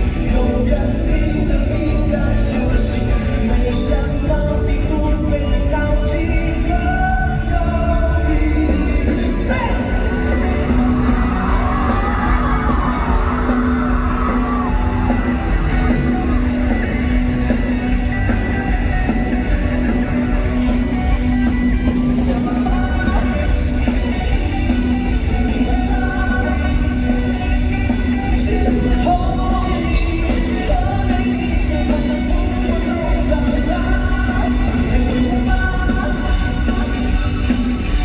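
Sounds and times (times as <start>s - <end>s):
live rock band playing: 0.0s - 38.0s
male lead vocal: 0.0s - 38.0s.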